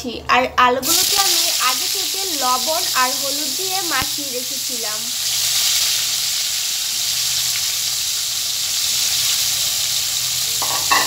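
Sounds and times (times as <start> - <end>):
potatoes sizzling in hot oil: 0.8 - 11.0.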